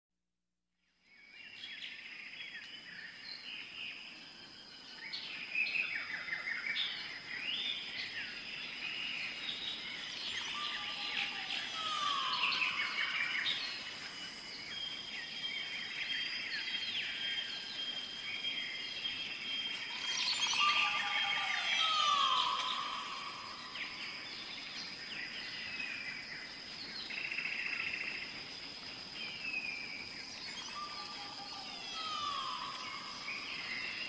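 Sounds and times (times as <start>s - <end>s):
small birds chirping and trilling: 1.0s - 34.0s.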